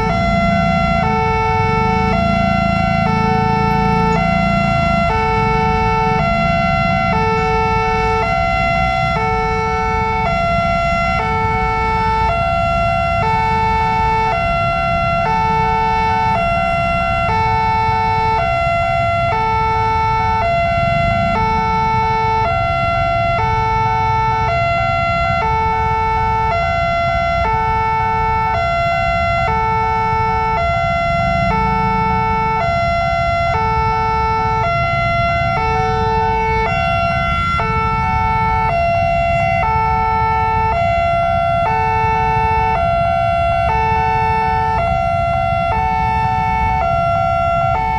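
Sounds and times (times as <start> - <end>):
two-tone crossing alarm: 0.0 - 47.9.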